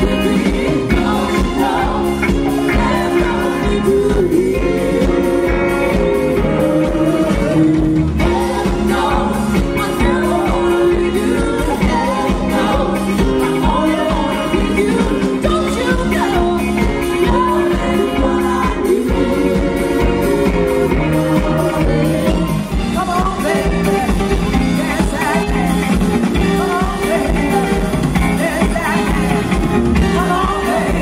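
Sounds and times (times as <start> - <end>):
electric guitar: 0.0 - 31.0
keyboards: 0.0 - 31.0
steady drum beat: 0.0 - 31.0
vocalists singing: 0.0 - 31.0.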